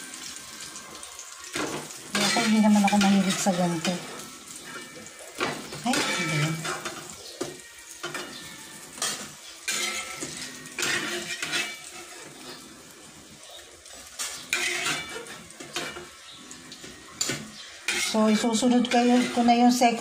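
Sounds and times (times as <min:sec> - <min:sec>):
faint frying sizzle: 0:00.0 - 0:20.0
spatula scraping frying pan: 0:01.5 - 0:20.0.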